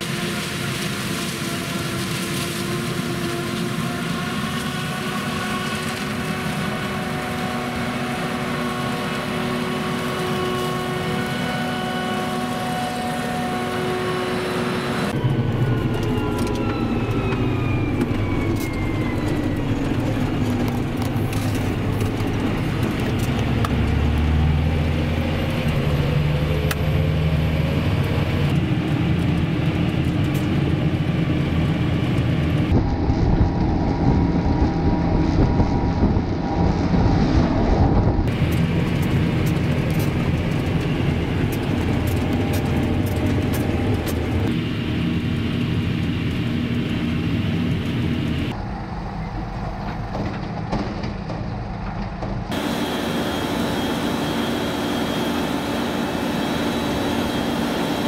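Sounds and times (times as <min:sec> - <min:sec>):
tractor driving on a road: 0:00.0 - 0:58.0
tractor engine rumble with whine: 0:00.0 - 0:58.0.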